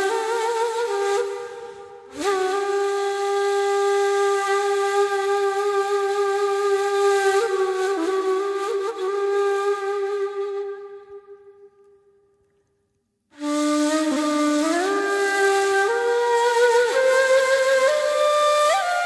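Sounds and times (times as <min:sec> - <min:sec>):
breathy reed flute improvising: 0:00.0 - 0:11.9, 0:13.3 - 0:19.0.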